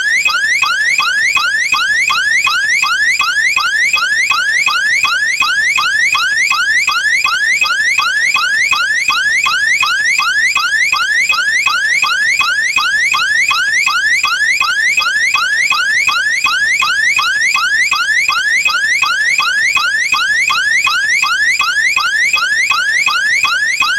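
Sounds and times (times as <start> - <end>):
electronic alarm siren whooping: 0.0 - 23.9.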